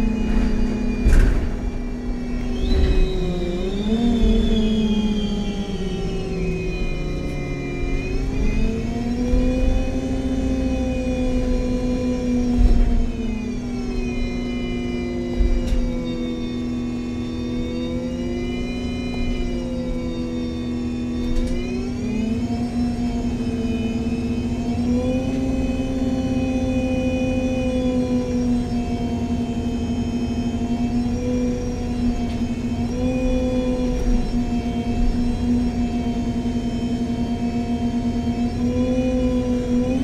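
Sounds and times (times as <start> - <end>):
bus gearbox whine: 0.0 - 40.0
low hum: 0.0 - 40.0.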